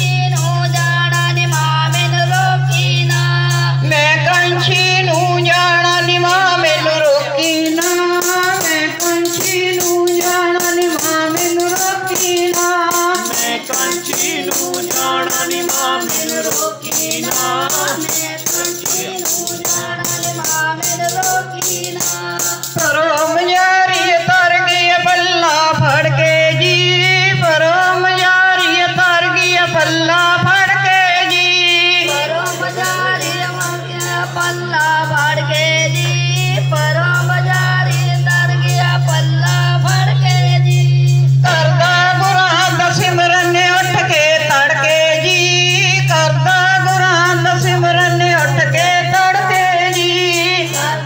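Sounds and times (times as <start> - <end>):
person singing: 0.0 - 51.0
rattling tambourine-like percussion: 0.0 - 51.0.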